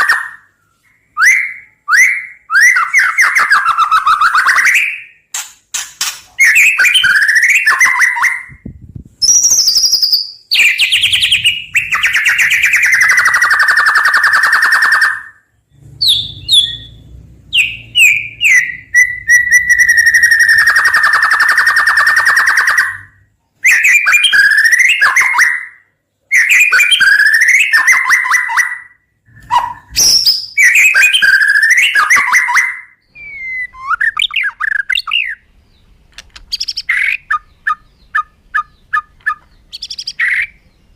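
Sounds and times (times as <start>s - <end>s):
bird singing whistled phrases: 0.0s - 5.2s, 6.4s - 8.6s, 9.2s - 15.4s, 16.0s - 35.5s, 36.5s - 40.9s.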